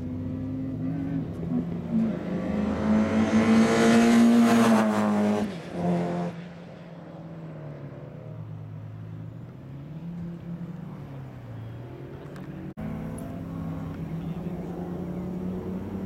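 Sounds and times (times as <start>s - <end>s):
distant car engines: 0.0s - 16.0s
race car engine passing: 0.0s - 16.0s.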